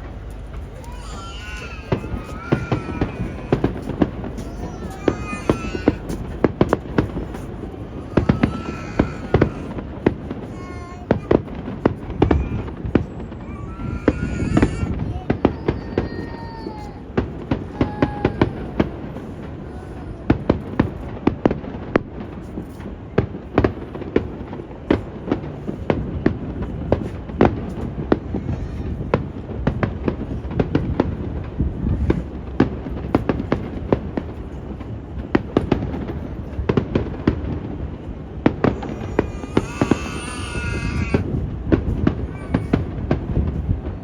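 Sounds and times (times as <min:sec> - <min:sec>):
fireworks bangs and crackles: 0:00.0 - 0:44.0
wind on microphone: 0:00.0 - 0:44.0.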